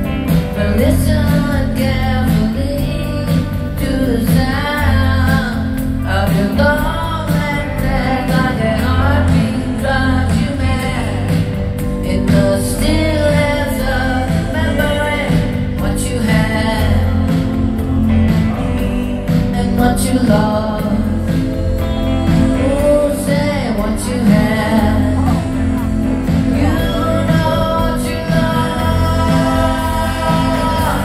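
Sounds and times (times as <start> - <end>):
live rock band with singer: 0.0 - 31.0.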